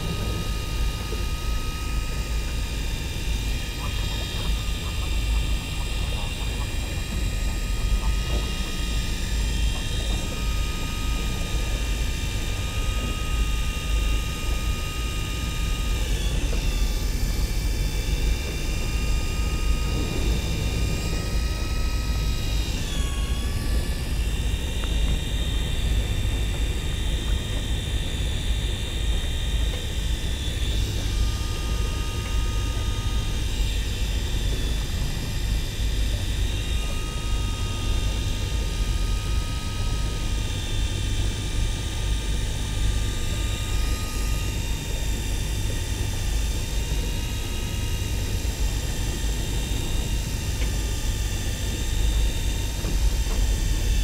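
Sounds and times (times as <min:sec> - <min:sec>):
motor running with whine: 0:00.0 - 0:54.0.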